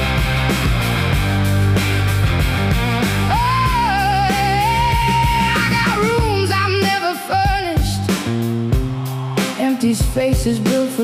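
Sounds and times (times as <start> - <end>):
blues-rock band playing: 0.0 - 11.0.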